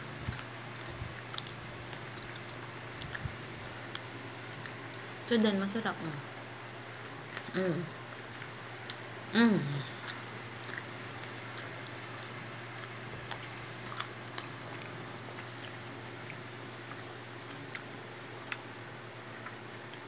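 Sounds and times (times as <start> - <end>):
steady low hum: 0.0 - 20.0
chewing corn on the cob: 0.1 - 4.8, 6.8 - 9.1, 10.0 - 20.0.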